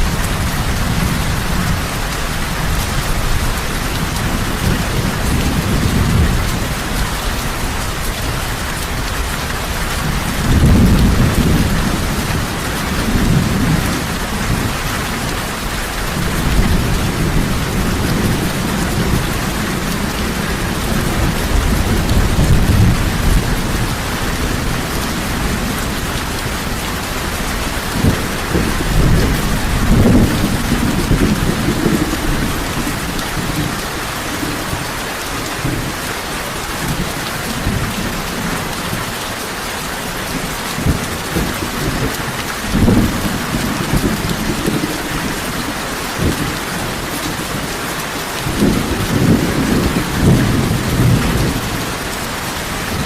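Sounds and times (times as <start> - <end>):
thunder rumbling: 0.0 - 36.2, 40.3 - 47.7, 48.4 - 53.0
heavy rain falling: 0.0 - 53.0.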